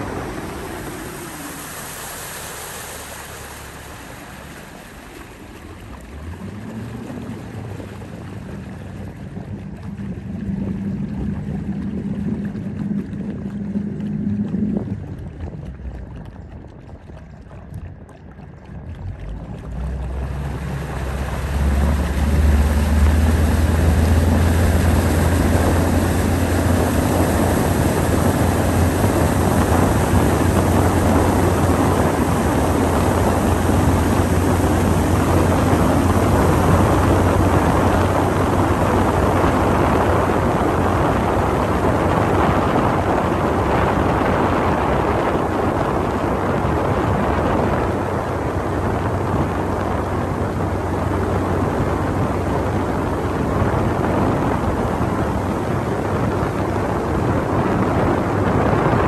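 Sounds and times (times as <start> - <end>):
motorboat engine: 0.0 - 59.0
water rushing: 0.0 - 59.0
wind: 0.0 - 59.0.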